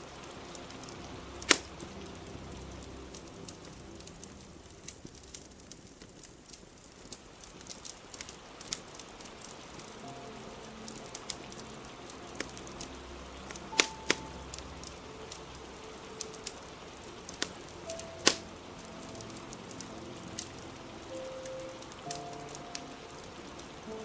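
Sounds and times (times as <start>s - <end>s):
soft music with held notes: 0.0s - 6.6s, 8.2s - 24.0s
fire crackling with sharp pops: 0.0s - 24.0s
rain hiss: 0.0s - 24.0s.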